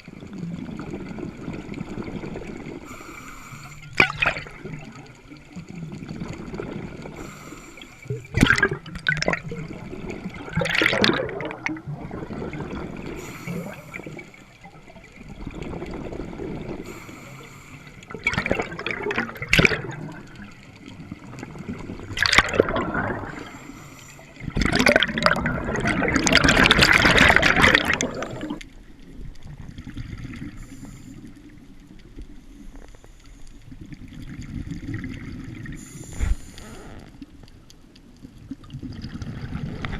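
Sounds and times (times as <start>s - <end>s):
exhaled bubbles gurgling: 0.0s - 33.0s, 33.6s - 39.9s
watery wash: 0.0s - 39.9s.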